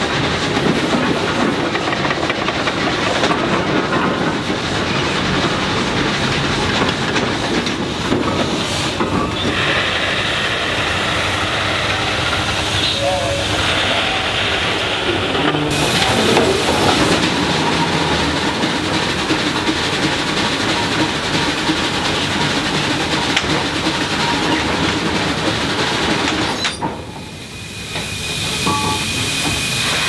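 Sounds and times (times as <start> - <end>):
steam shovel machinery clatter: 0.0 - 30.0.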